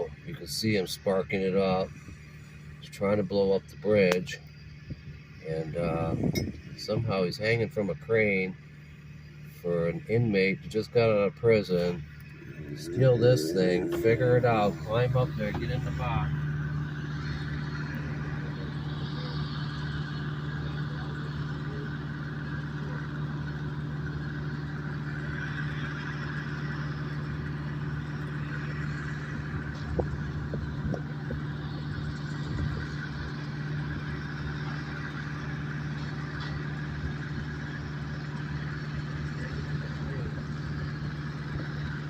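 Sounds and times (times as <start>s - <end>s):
engine humming steadily: 0.0s - 42.0s.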